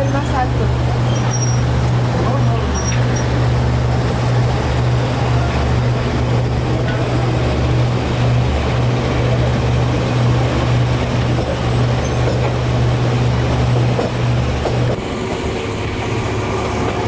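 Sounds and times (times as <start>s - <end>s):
passenger train running: 0.0s - 17.0s.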